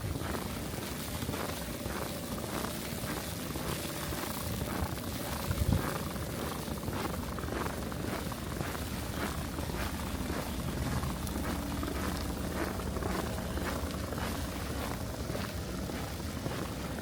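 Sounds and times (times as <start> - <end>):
boots crunching through snow: 0.0 - 17.0.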